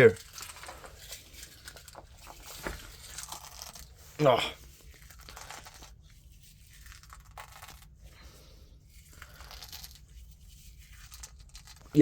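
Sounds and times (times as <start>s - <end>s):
egg shell crushed by hand: 0.0s - 4.1s, 4.8s - 8.0s, 9.0s - 12.0s.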